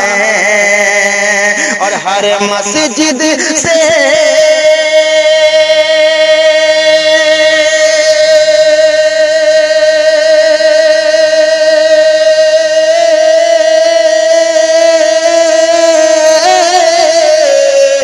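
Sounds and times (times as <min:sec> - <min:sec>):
man singing long note: 0:00.0 - 0:18.0.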